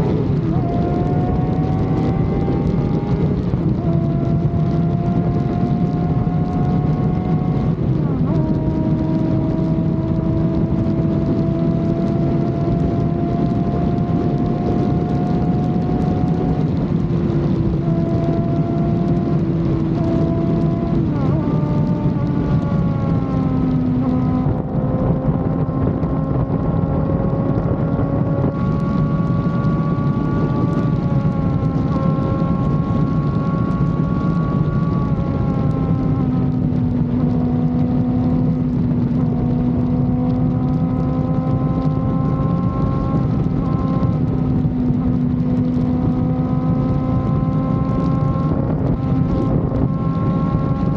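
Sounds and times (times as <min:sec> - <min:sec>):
vehicle engine running: 0:00.0 - 0:50.9
wind rushing over microphone: 0:00.0 - 0:50.9.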